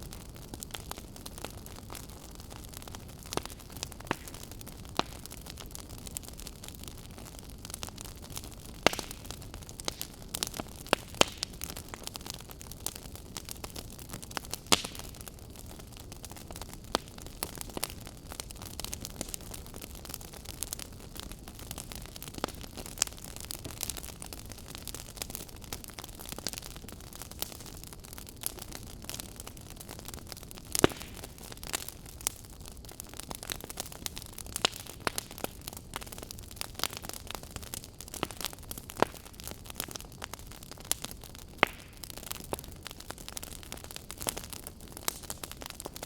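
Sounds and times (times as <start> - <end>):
fire pops and snaps: 0.0 - 46.0
wood fire crackling: 0.0 - 46.0.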